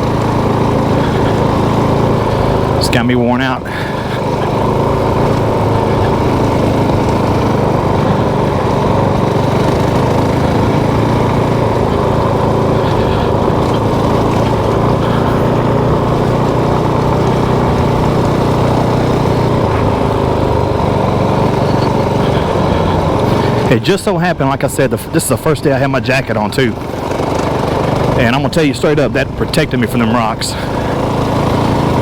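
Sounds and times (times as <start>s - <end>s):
motorcycle engine running steadily: 0.0s - 32.0s.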